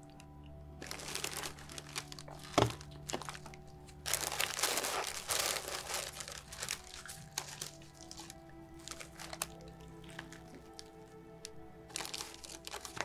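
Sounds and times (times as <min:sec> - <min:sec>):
plastic bag crinkling: 0:00.0 - 0:13.0
soft music with held notes: 0:00.0 - 0:13.0.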